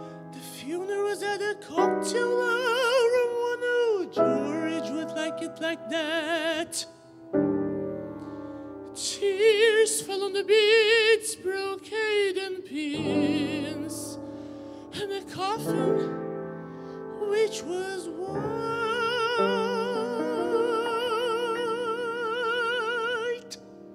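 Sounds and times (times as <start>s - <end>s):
person singing operatically: 0.0s - 7.0s, 9.0s - 14.2s, 14.9s - 16.2s, 17.1s - 23.6s
grand piano: 0.0s - 23.9s.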